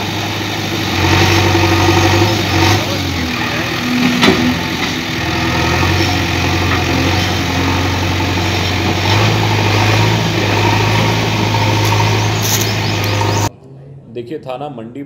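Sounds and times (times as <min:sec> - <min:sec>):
diesel engine running: 0:00.0 - 0:13.5.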